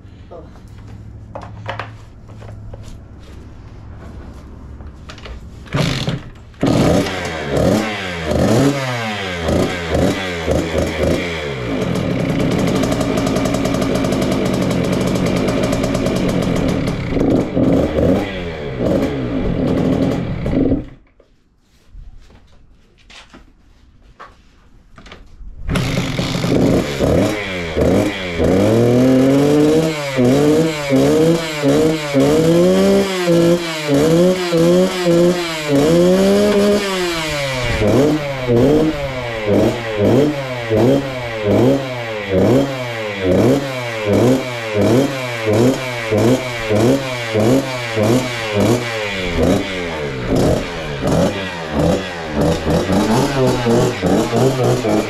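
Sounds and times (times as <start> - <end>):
two-stroke engine revving: 5.7 - 21.0, 25.7 - 55.0.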